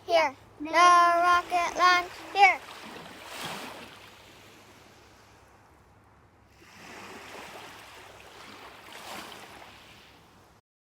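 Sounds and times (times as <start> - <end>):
small waves washing on shore: 0.2 - 10.6.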